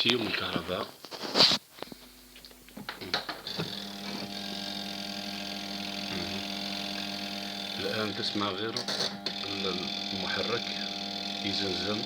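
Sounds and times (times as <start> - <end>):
motor buzzing with electrical hum: 1.4 - 12.0.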